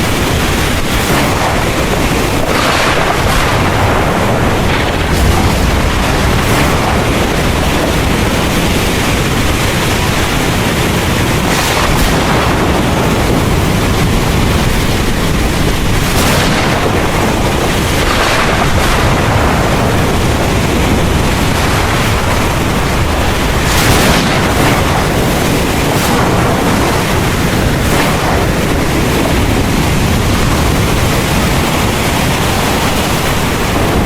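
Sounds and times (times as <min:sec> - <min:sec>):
heavy rain falling: 0:00.0 - 0:34.0
low thunder rumble: 0:00.0 - 0:34.0.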